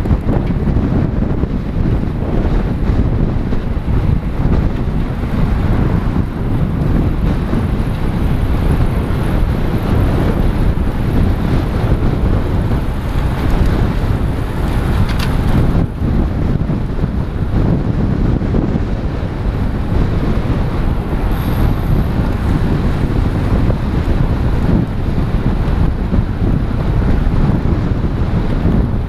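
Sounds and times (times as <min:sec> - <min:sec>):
wind buffeting a camera: 0:00.0 - 0:29.0.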